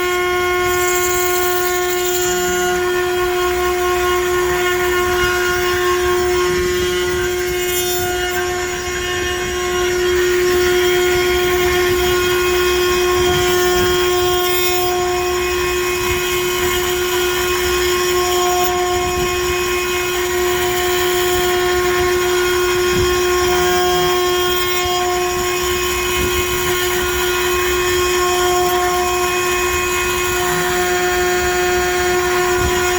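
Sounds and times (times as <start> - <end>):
rough mechanical noise: 0.0 - 32.9
router spindle whine: 0.0 - 32.9.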